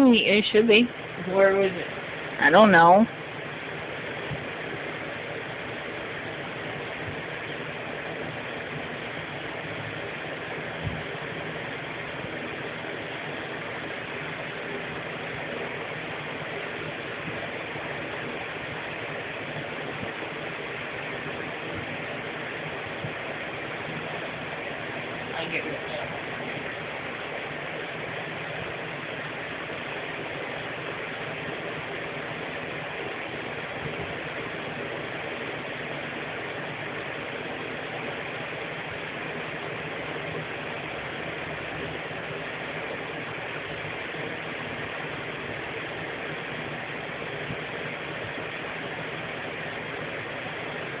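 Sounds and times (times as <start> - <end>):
low hum: 0.0 - 51.0
room hiss: 0.0 - 51.0.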